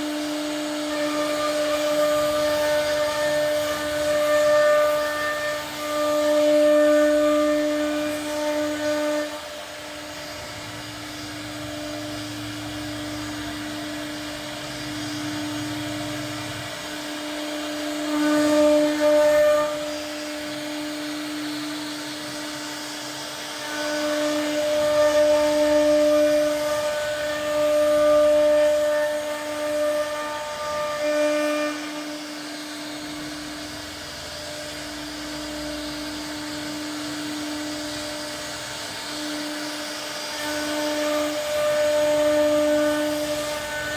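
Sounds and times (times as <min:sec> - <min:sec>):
router bit cutting wood panel: 0:00.0 - 0:43.9
router spindle whining: 0:00.0 - 0:43.9.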